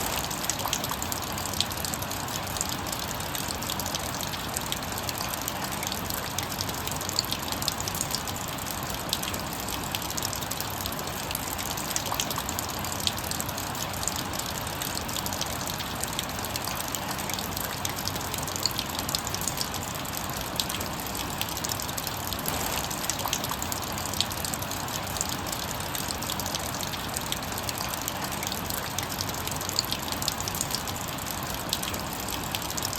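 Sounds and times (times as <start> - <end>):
steady rain: 0.0 - 32.9
water dripping off roof: 0.0 - 32.9.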